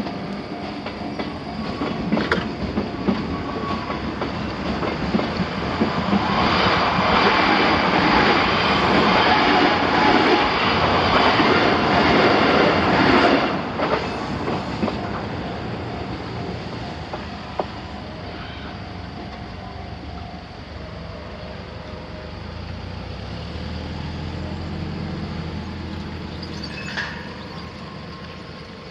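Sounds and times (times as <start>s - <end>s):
electric train wheel-on-rail noise: 0.0s - 28.9s.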